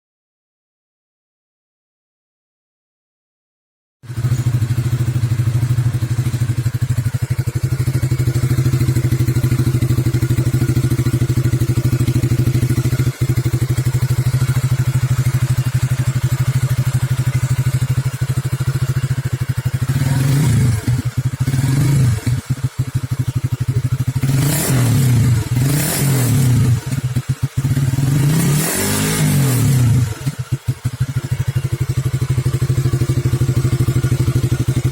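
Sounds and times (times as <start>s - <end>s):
motorcycle engine idling: 4.1s - 34.9s.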